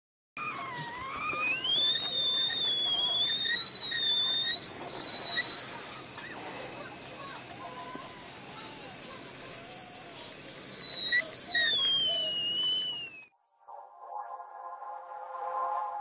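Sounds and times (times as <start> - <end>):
kettle whistling: 0.4 - 13.3.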